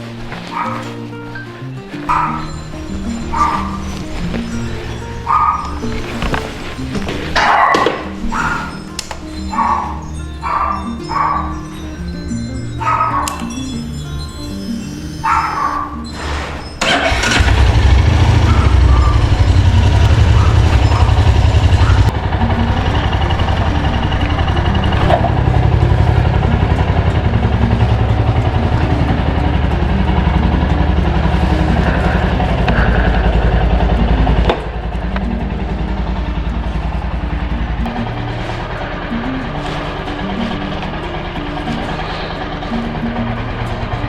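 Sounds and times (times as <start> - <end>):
motorcycle engine running: 2.1 - 11.5, 16.8 - 44.0.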